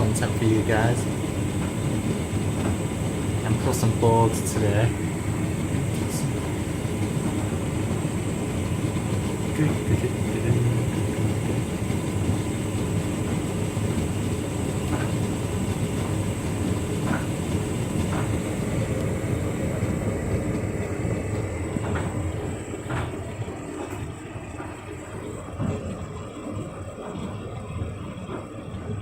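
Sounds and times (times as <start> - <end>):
tumble dryer drum rumbling: 0.0 - 29.0.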